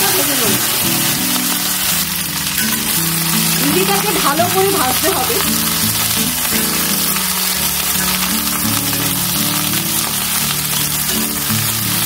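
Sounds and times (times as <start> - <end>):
background music with held notes: 0.0 - 12.0
okra sizzling in hot oil: 0.0 - 12.0.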